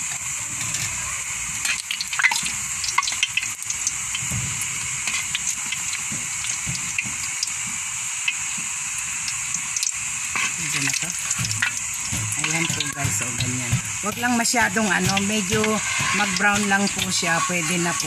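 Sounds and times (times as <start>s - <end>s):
deep-frying sizzle with pops: 0.0s - 18.0s.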